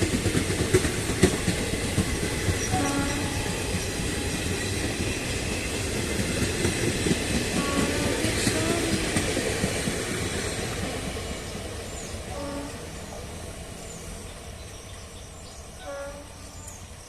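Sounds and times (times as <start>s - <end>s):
train rolling past: 0.0s - 17.0s.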